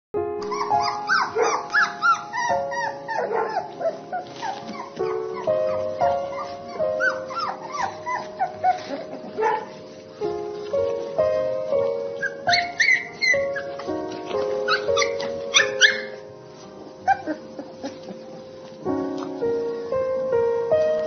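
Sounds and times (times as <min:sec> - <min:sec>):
background music with held chords: 0:00.2 - 0:21.0
puppies squeaking and whimpering: 0:00.4 - 0:18.8.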